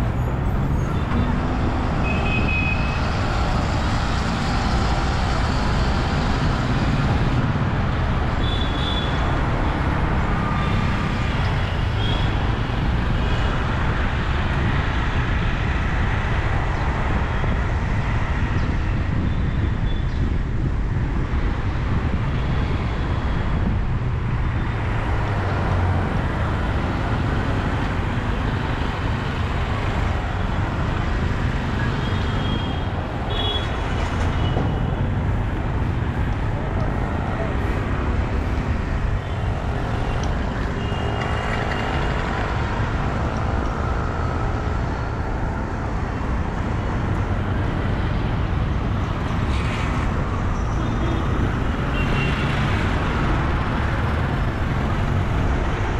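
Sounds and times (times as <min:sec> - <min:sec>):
road traffic rumble: 0:00.0 - 0:55.9.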